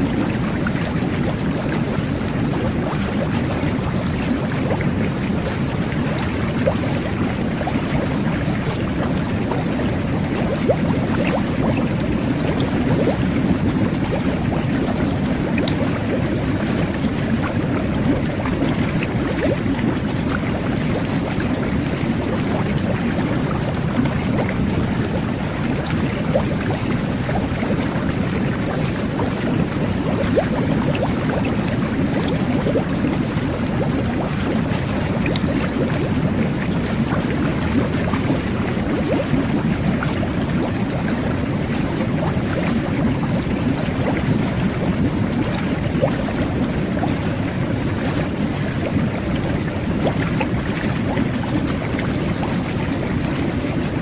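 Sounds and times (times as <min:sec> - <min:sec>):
whirlpool bath water churning: 0:00.0 - 0:54.0.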